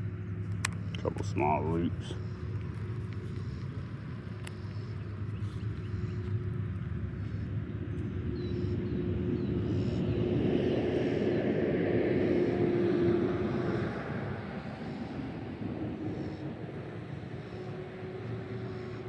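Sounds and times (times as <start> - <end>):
passing engine hum: 0.0 - 19.0.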